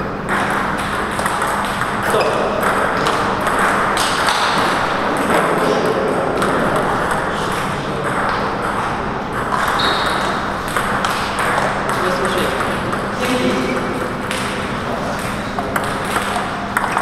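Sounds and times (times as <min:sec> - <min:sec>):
steady background noise: 0:00.0 - 0:17.0
table tennis balls clicking: 0:00.2 - 0:17.0.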